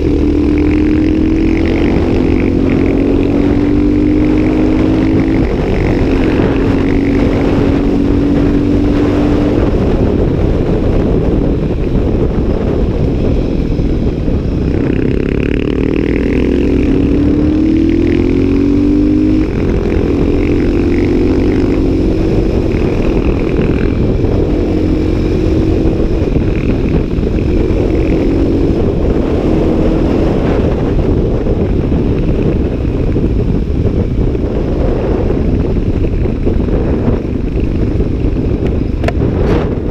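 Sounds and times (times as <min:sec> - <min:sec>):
motorcycle engine running at speed: 0:00.0 - 0:39.9
wind rush on microphone: 0:00.0 - 0:39.9.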